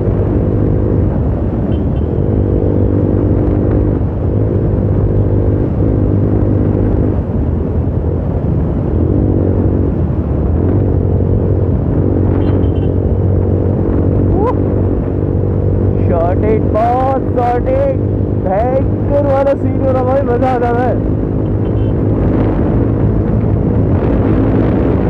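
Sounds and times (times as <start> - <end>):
wind and road rumble: 0.0 - 25.0.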